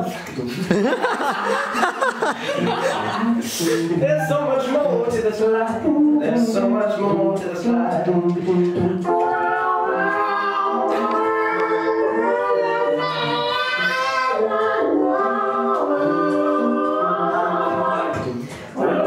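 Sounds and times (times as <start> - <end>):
voices singing in harmony: 0.8 - 19.0.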